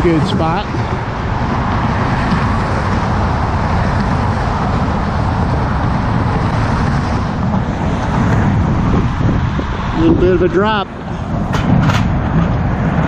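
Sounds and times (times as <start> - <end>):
traffic rumbling past: 0.0 - 13.0.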